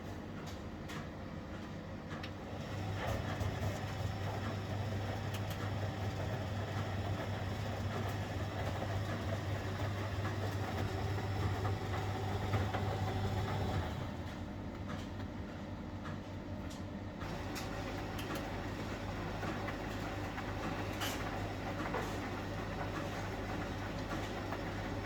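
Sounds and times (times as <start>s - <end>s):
washing machine motor humming: 0.0s - 25.0s.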